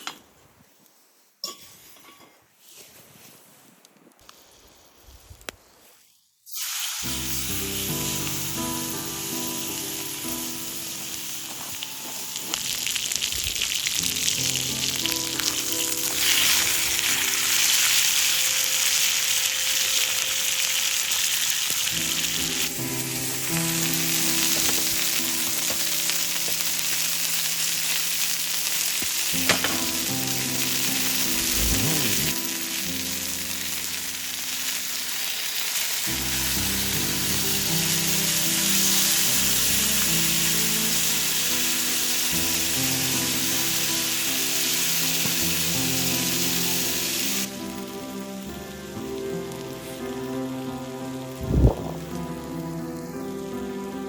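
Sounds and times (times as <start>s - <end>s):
food sizzling in hot pan: 6.4s - 54.0s
soft background music: 7.0s - 54.0s.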